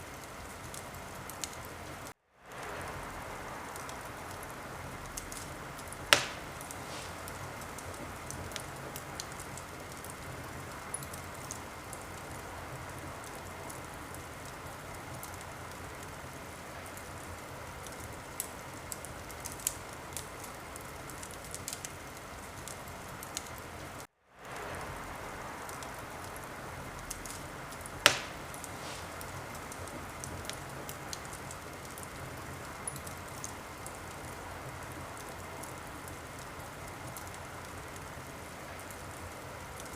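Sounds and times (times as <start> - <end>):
sharp fire cracks: 0.0 - 39.9
wood fire crackling: 0.0 - 39.9.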